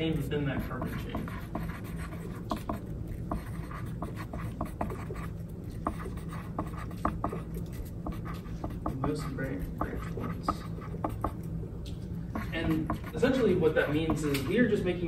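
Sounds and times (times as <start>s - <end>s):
steady low hum: 0.0s - 15.0s
pencil scratching on paper: 0.1s - 11.5s, 12.4s - 14.3s.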